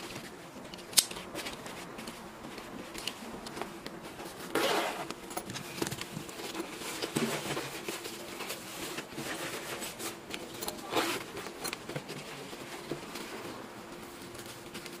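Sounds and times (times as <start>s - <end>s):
nylon fabric rustling: 1.2s - 15.0s.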